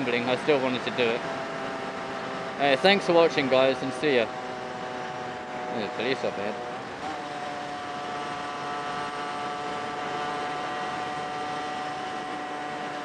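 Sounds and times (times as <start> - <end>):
motorbike engine cruising: 0.0 - 13.0.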